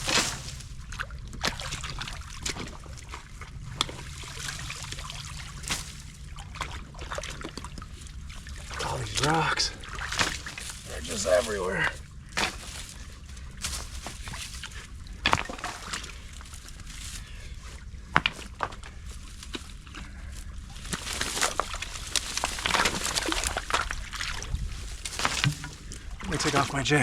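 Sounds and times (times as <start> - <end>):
creek water sloshing and splashing: 0.0 - 27.0.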